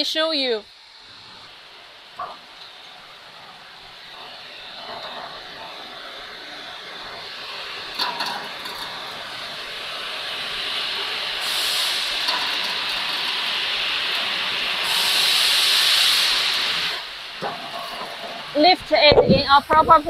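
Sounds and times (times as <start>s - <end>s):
washing machine hissing rush: 0.0s - 20.0s.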